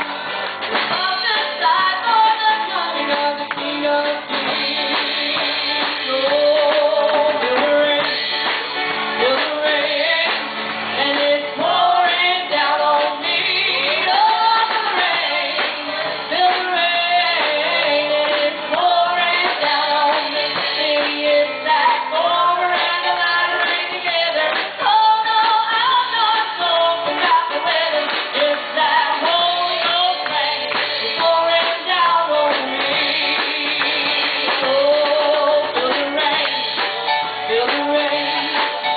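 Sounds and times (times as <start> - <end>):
instrumental backing: 0.0 - 38.9
woman singing gospel: 0.9 - 8.3, 9.1 - 38.9.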